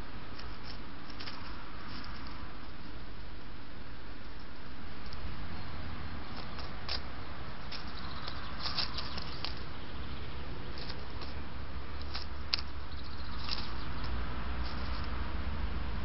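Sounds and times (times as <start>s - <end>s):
bird rustling in dry leaves: 0.0s - 15.8s
camera hum and hiss: 0.0s - 16.0s.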